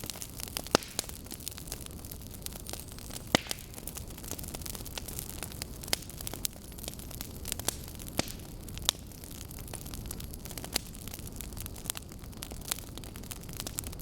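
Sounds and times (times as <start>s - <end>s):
burning logs crackling: 0.0s - 14.0s.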